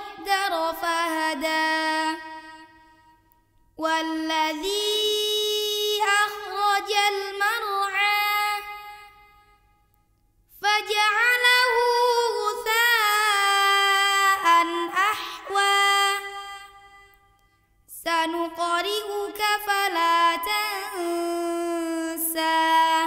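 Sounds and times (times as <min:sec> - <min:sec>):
girl reciting melodically: 0:00.0 - 0:02.8, 0:03.8 - 0:09.3, 0:10.5 - 0:17.0, 0:17.9 - 0:23.0.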